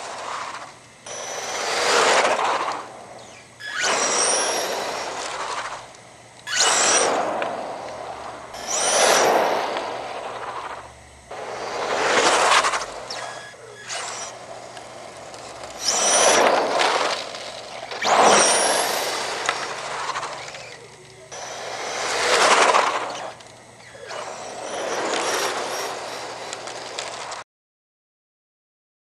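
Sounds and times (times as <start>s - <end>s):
electric motor revving: 0.0s - 27.4s
rising motor whine: 0.0s - 27.4s.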